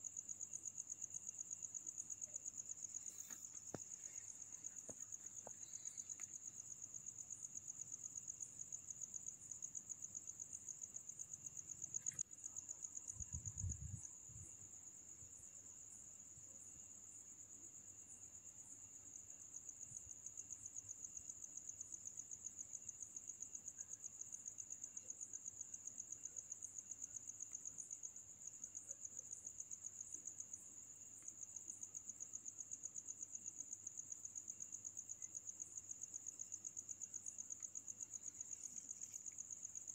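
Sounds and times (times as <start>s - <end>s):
insects trilling: 0.0s - 13.9s, 17.9s - 39.9s.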